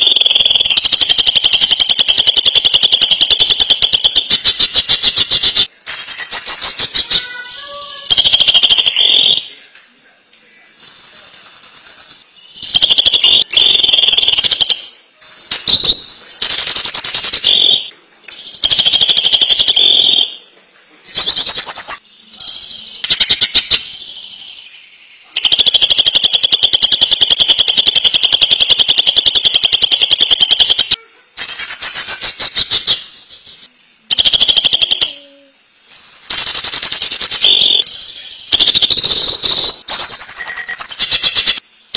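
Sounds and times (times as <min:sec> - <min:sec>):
bird rattling song: 0:00.0 - 0:07.4, 0:10.8 - 0:20.4, 0:21.1 - 0:22.0, 0:22.6 - 0:24.4, 0:25.4 - 0:35.1, 0:35.9 - 0:41.6.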